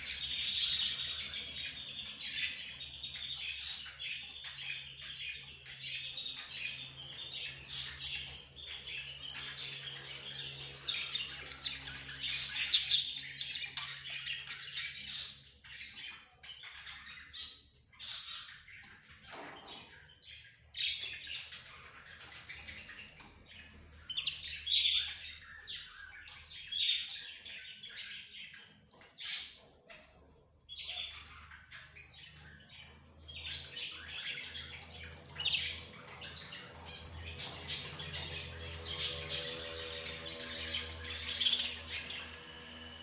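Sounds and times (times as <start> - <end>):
cage birds chirping and squawking: 0.0 - 43.0.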